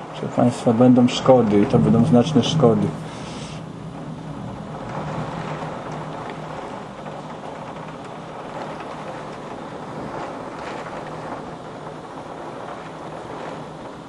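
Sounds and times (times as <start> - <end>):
raindrops tapping on window: 0.0 - 14.0
storm wind and heavy rain: 0.0 - 14.0.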